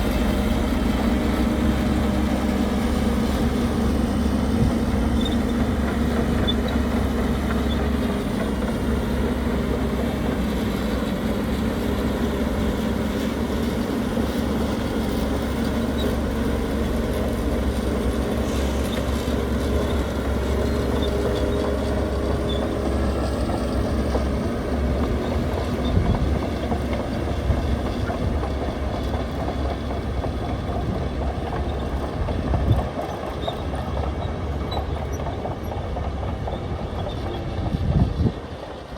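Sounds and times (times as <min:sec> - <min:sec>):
diesel machinery rumbling and rattling: 0:00.0 - 0:38.9.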